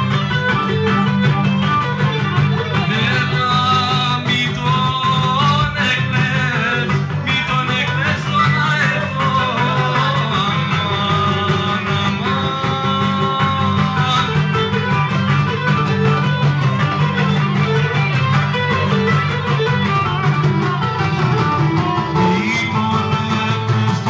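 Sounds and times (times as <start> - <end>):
lutes strumming and plucking: 0.0 - 24.0
sustained melody line: 0.0 - 24.0.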